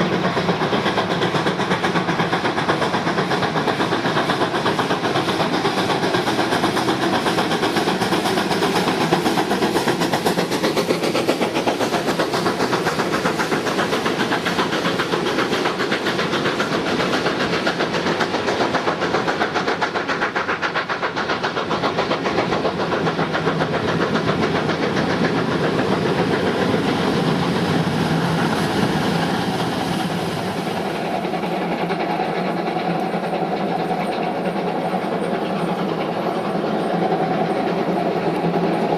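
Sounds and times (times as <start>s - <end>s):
steam locomotive exhaust: 0.0s - 38.9s
train running on rails: 0.0s - 38.9s.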